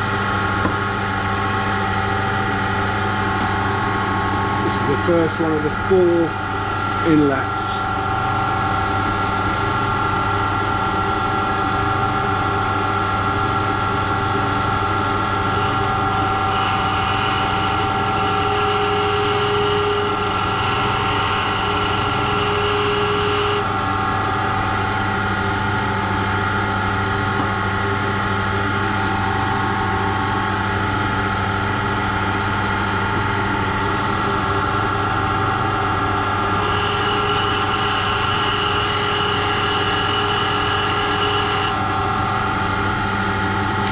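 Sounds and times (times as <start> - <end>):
grinding machine running: 0.0 - 43.9.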